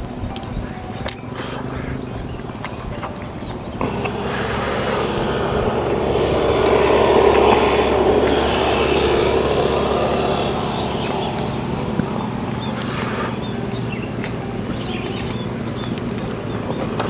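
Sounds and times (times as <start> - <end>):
vehicle engine passing by: 1.2 - 17.0.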